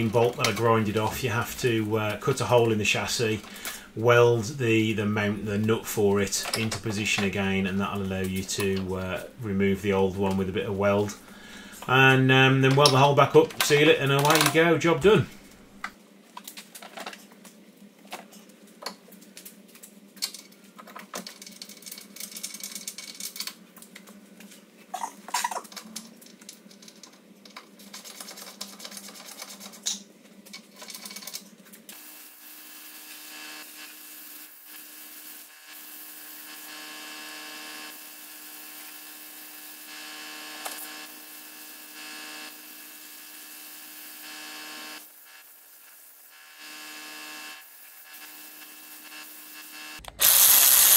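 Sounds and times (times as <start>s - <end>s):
steady electric hum: 0.0s - 20.7s, 30.2s - 50.9s.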